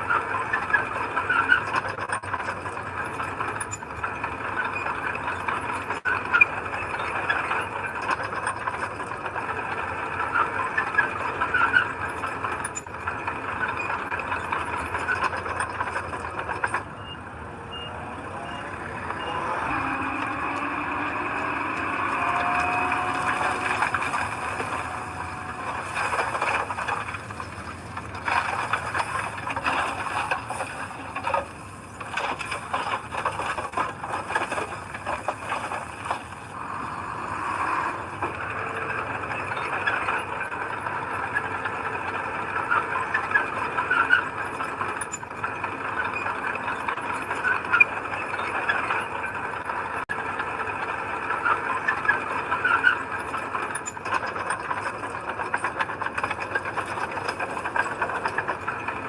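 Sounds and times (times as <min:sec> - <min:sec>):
metallic squealing and rattling: 0:00.0 - 0:50.1, 0:51.2 - 0:59.0
heavy machinery engine running: 0:00.0 - 0:59.0.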